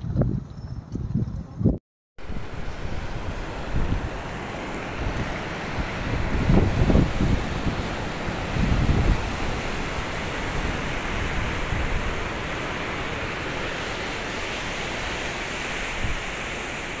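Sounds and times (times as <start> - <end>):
wind on microphone: 0.0 - 17.0
floodwater pouring over spillway: 2.2 - 17.0.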